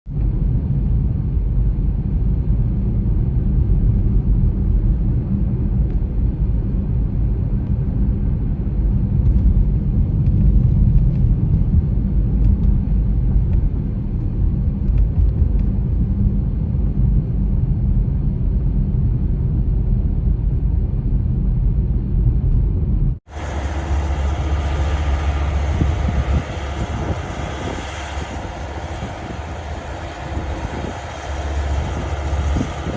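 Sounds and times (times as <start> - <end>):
wind buffeting microphone: 0.1 - 32.9.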